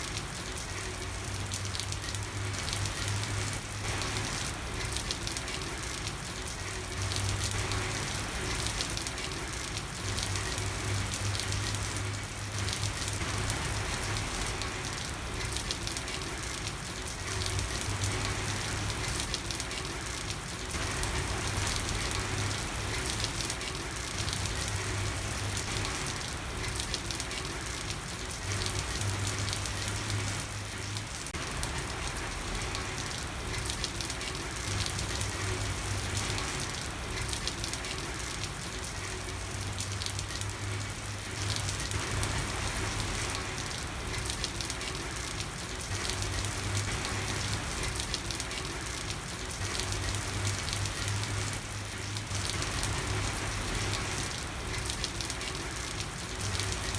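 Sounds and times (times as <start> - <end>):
rain falling on a street: 0.0 - 56.9.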